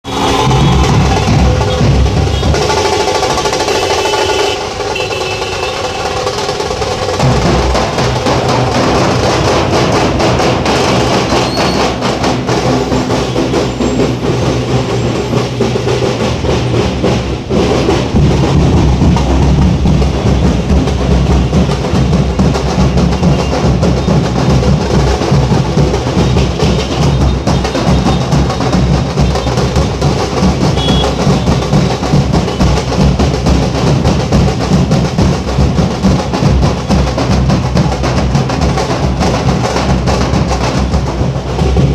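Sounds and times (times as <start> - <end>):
dhol drums beaten fast: 0.0 - 41.9.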